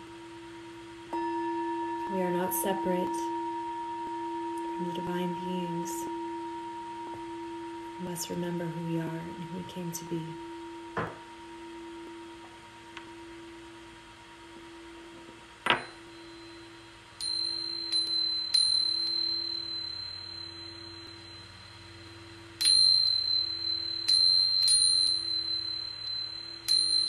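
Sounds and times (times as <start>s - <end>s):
singing bowl ringing: 0.0s - 27.0s
high bell-like ping: 1.1s - 12.2s, 15.6s - 27.0s.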